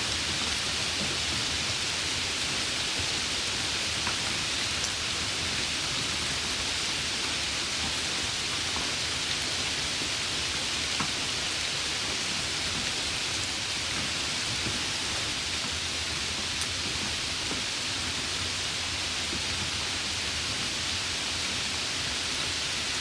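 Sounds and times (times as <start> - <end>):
hiss of falling rain: 0.0 - 23.0.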